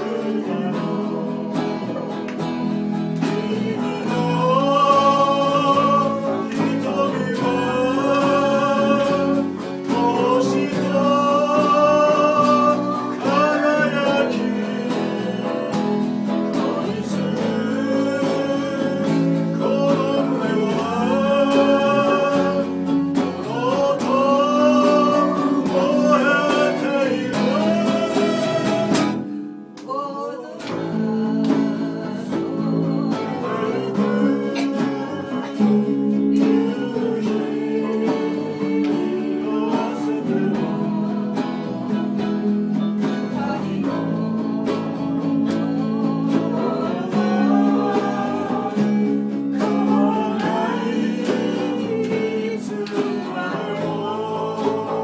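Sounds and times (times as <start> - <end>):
electric guitar: 0.0 - 55.0
man singing: 0.0 - 55.0
strummed acoustic guitar: 0.0 - 55.0.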